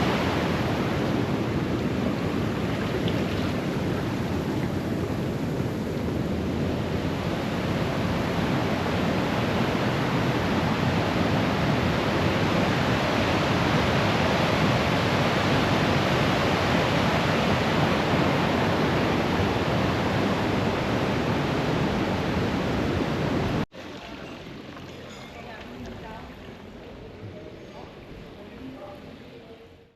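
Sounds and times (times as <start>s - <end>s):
fast-flowing river water: 0.0s - 27.5s.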